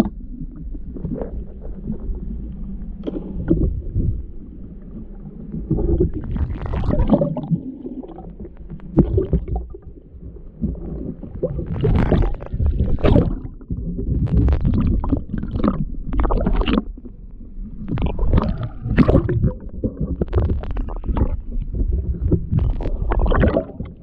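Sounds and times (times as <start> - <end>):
muffled underwater water gurgling: 0.0 - 24.0.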